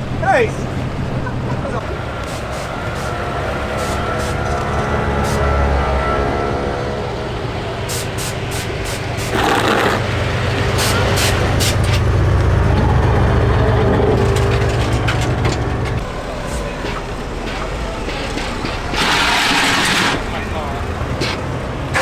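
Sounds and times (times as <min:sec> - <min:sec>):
vehicle engines humming: 0:00.0 - 0:22.0.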